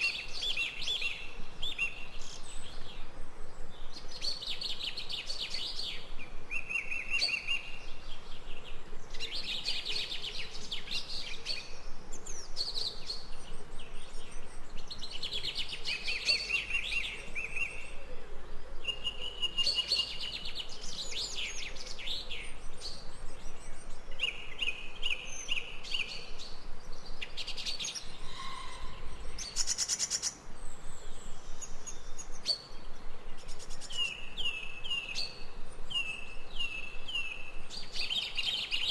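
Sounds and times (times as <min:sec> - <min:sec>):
faint steady hiss: 0:00.0 - 0:38.9
songbirds chirping and trilling: 0:00.0 - 0:38.9.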